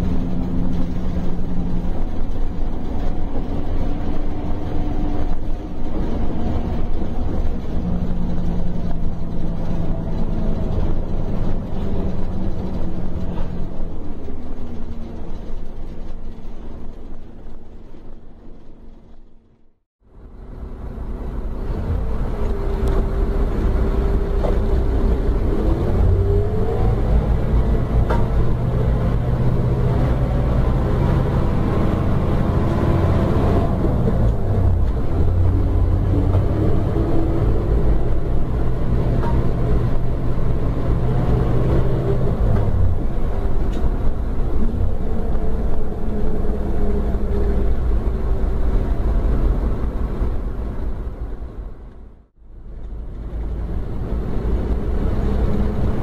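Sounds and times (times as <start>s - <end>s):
diesel engine drone: 0.0s - 56.0s
road noise: 0.0s - 56.0s.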